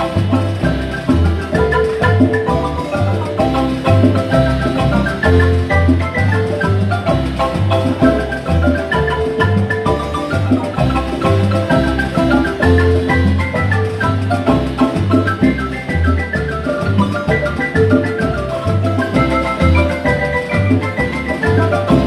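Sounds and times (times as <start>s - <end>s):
marimba bass pulse: 0.0s - 22.0s
marimba melody: 0.0s - 22.0s.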